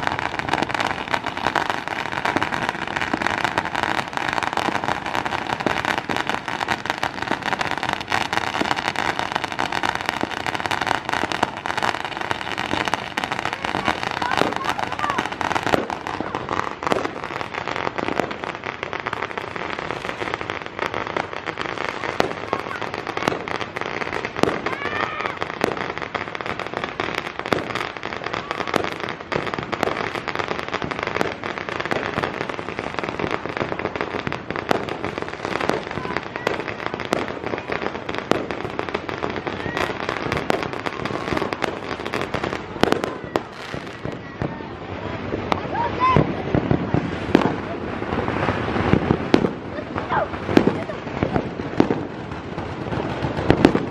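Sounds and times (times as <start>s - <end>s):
fireworks crackling and banging: 0.0s - 53.9s.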